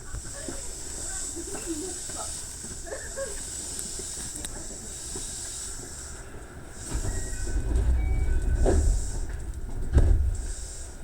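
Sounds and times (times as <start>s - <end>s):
train hiss: 0.0s - 11.0s
train low rumble: 0.0s - 11.0s.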